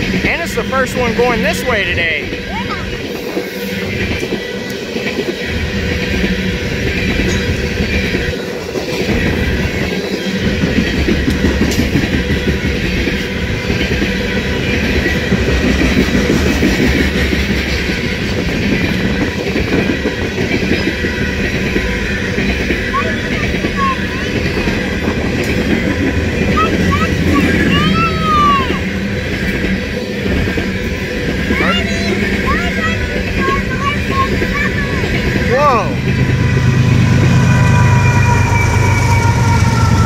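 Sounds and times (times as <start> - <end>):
freight train wheels rumbling and rattling: 0.0 - 40.0.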